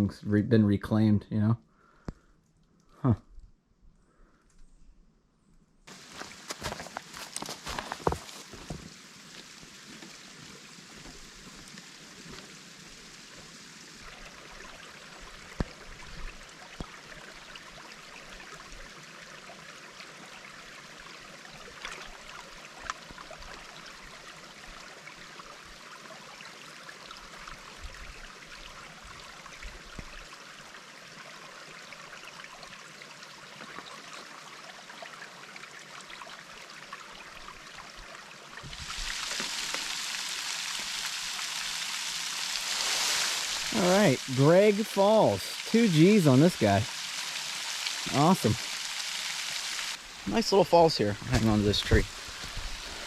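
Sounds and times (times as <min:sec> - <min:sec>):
creek flowing: 0:05.9 - 0:53.0.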